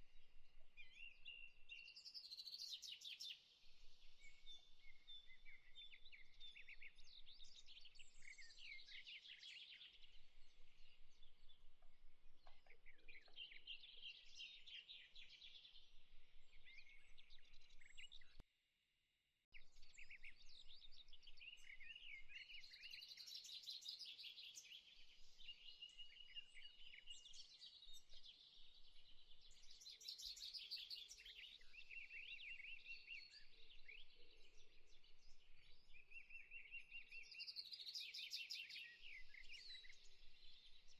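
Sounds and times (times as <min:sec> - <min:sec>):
small birds chirping and trilling: 0:00.2 - 0:18.4, 0:19.6 - 0:40.9.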